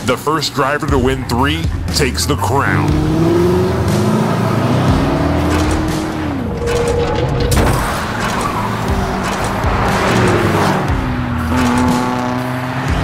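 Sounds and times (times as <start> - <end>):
race car engine sound effect: 0.0 - 13.0.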